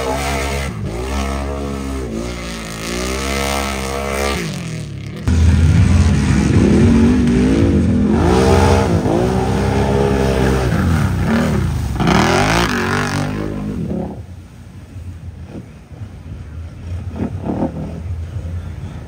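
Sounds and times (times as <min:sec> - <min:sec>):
atv engine revving: 0:00.0 - 0:14.4, 0:15.4 - 0:19.0.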